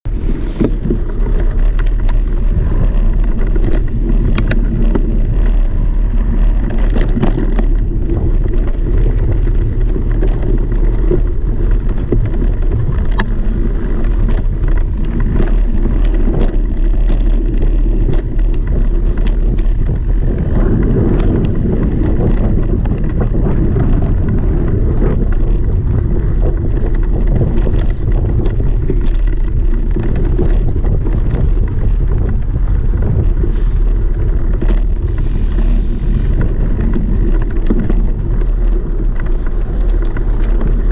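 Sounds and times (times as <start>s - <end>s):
off-road vehicle engine drone: 0.0s - 40.9s
wind buffeting microphone: 0.0s - 40.9s.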